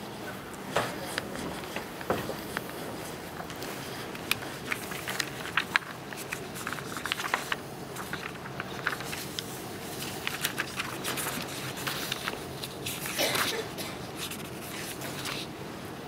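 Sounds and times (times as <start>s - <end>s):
audience clicks taps and rustles: 0.5s - 15.5s.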